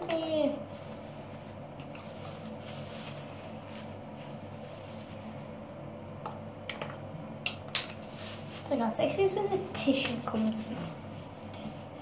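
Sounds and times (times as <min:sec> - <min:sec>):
low machine hum: 0:00.0 - 0:12.0
paper tissue rustling: 0:00.2 - 0:05.8, 0:07.9 - 0:12.0.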